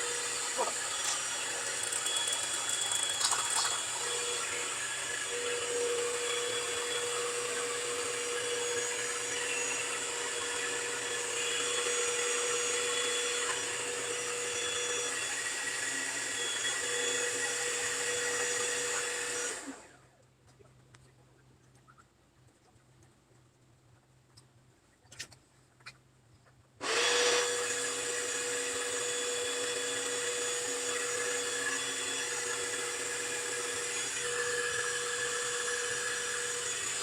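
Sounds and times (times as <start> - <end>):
electric motor machine whirring: 0.0 - 20.0, 26.8 - 37.0.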